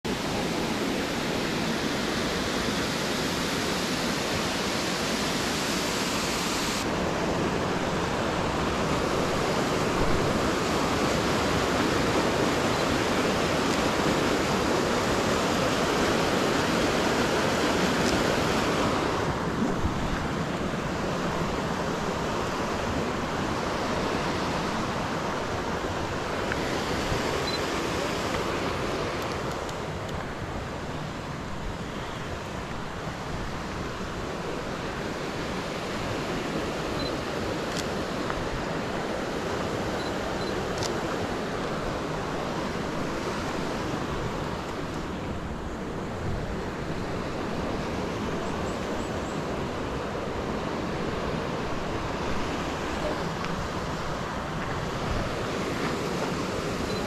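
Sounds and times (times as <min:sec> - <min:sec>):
waterfall and creek rushing: 0:00.0 - 0:57.0.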